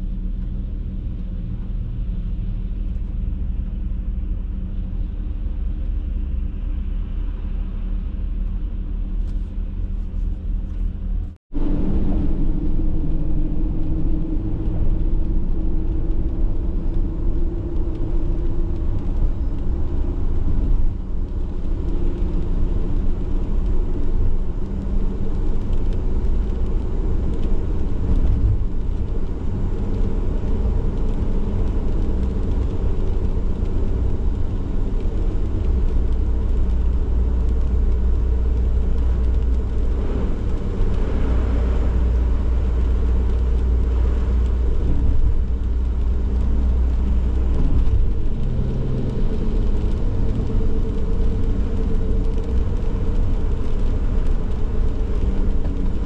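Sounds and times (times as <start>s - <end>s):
van engine and tyres rumbling: 0.0s - 56.0s.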